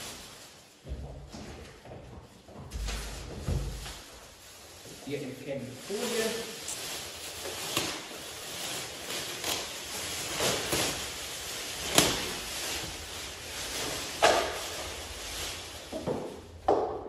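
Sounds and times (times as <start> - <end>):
plastic wrapping film rustling: 0.0 - 1.3, 2.7 - 17.0.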